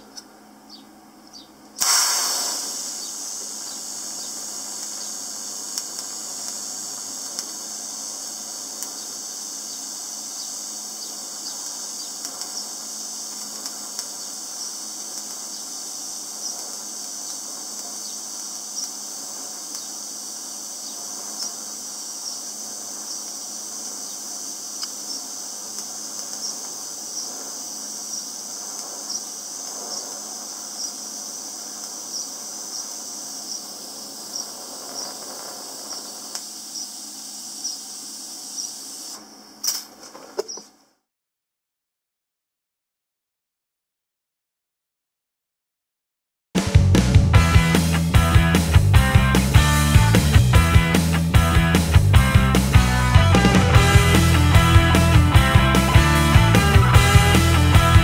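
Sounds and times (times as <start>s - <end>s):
welding arc hissing: 1.6s - 40.1s, 46.6s - 58.0s.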